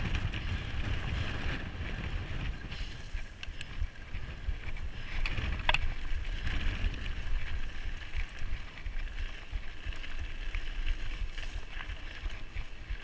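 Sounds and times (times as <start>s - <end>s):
bike rattling and clattering: 0.0s - 13.0s
wind buffeting microphone: 0.0s - 13.0s.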